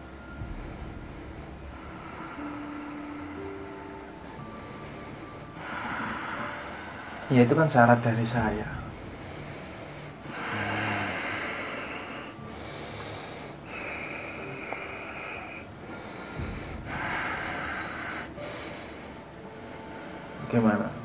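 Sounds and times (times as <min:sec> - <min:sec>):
man breathing heavily: 0:00.1 - 0:07.4, 0:08.6 - 0:20.5.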